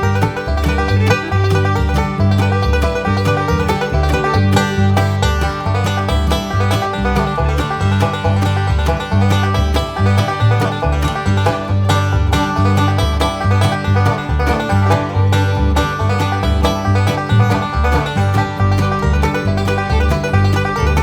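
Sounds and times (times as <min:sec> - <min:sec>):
banjo picking: 0:00.0 - 0:21.0
bass line: 0:00.0 - 0:21.0
guitar: 0:00.0 - 0:21.0.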